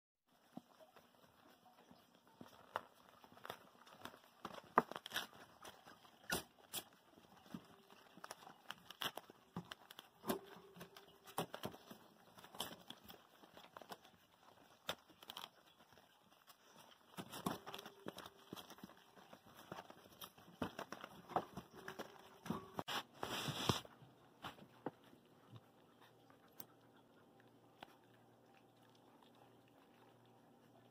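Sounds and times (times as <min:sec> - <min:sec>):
puppy paws scratching on mat: 0:00.3 - 0:30.9.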